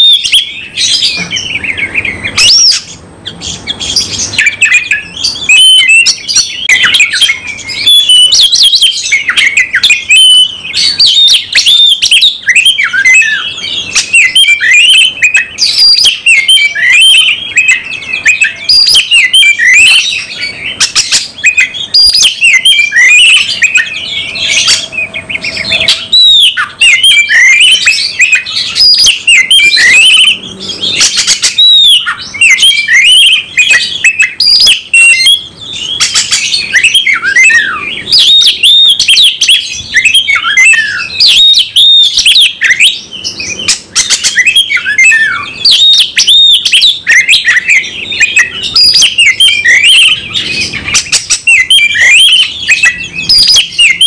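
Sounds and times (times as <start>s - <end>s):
bird singing loudly: 0.0s - 54.0s.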